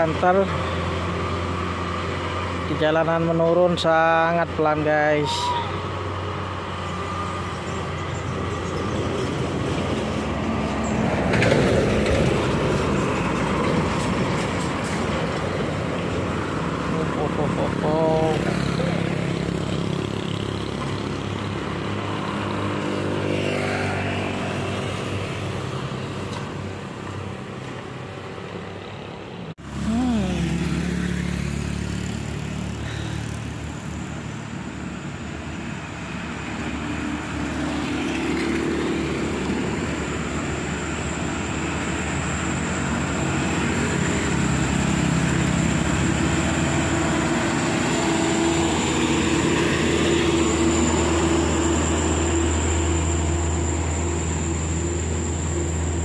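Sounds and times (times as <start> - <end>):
diesel truck passing close: 0.0 - 56.0
motorcycles and cars passing: 0.0 - 56.0.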